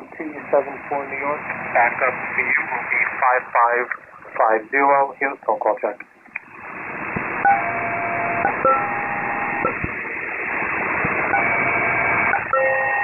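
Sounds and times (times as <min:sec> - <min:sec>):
paired radio tones: 0:00.0 - 0:13.0
radio static hiss: 0:00.0 - 0:13.0.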